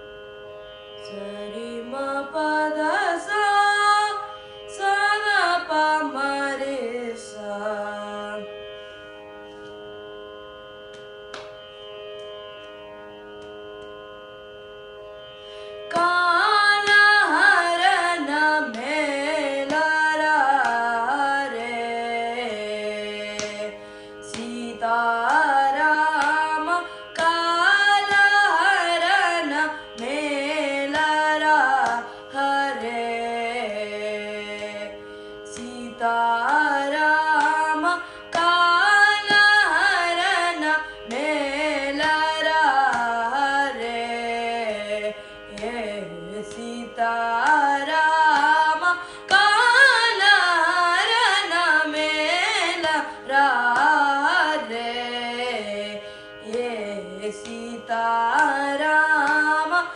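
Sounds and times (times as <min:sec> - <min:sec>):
boy singing classical melody: 0:00.0 - 0:08.8, 0:15.5 - 0:59.9.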